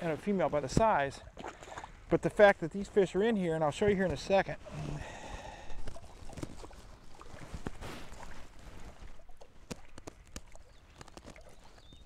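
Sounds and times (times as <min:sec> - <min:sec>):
water splashing against boat: 0:00.0 - 0:12.0.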